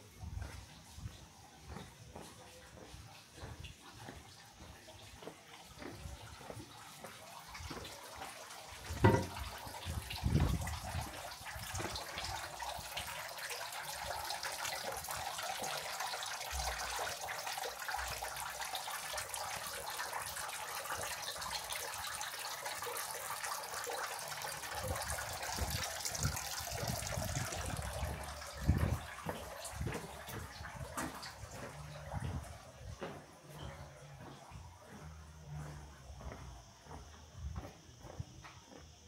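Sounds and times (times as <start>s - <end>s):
running water splashing: 0.0s - 35.6s.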